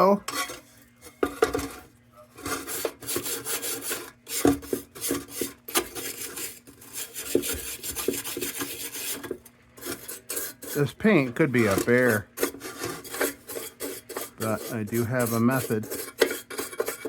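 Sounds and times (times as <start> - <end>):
scraping on tin: 0.2 - 17.0.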